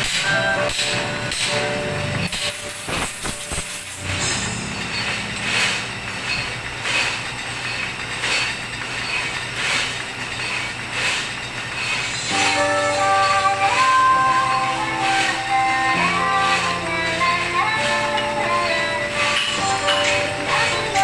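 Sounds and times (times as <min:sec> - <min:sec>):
machine humming: 0:00.0 - 0:21.0
rhythmic metallic scrape: 0:00.0 - 0:21.0.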